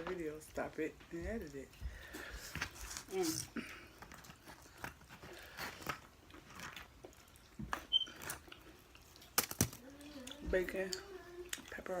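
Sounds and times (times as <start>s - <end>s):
person chewing food: 1.7s - 12.0s.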